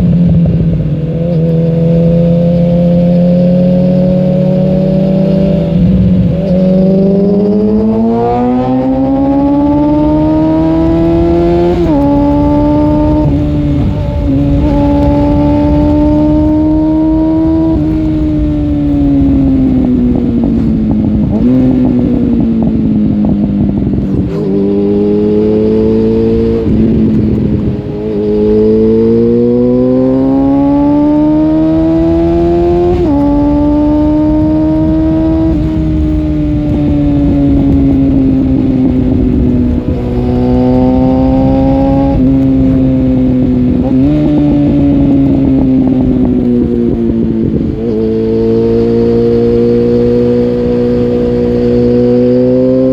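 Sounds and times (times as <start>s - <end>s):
motorcycle engine revving hard: 0.0s - 52.9s.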